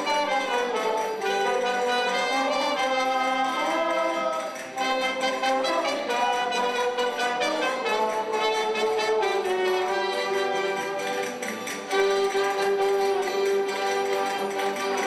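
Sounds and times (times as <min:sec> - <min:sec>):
brass band playing held notes: 0:00.0 - 0:15.0.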